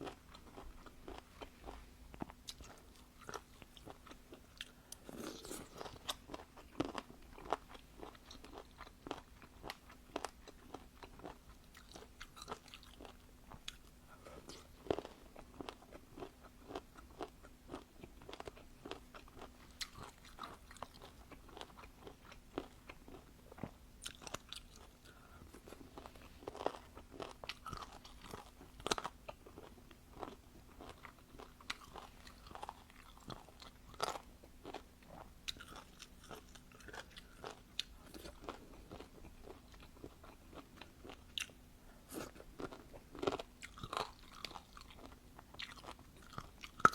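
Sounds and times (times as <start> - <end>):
faint hum: 0.0 - 46.9
person chewing crunchy food: 0.0 - 46.9.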